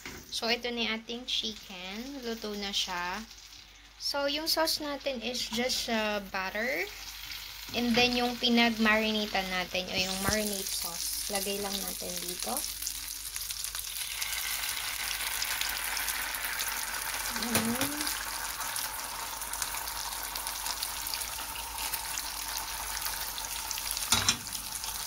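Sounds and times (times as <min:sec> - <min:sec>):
marinade sizzling in frying pan: 0:00.4 - 0:25.0.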